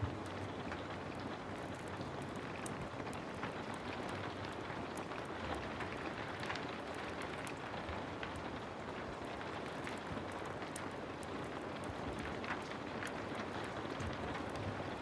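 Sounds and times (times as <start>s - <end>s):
heavy rain: 0.0s - 15.0s
wood fire crackling: 0.0s - 15.0s.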